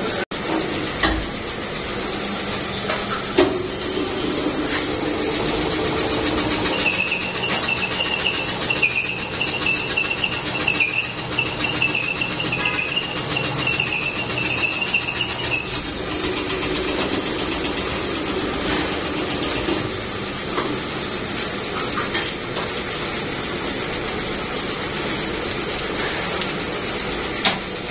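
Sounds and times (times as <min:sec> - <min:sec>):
injection moulding machine running: 0:00.0 - 0:27.9.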